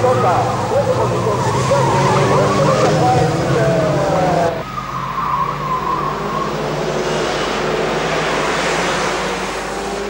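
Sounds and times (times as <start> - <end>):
race car passing: 0.0 - 10.0
race cars driving past: 0.0 - 10.0.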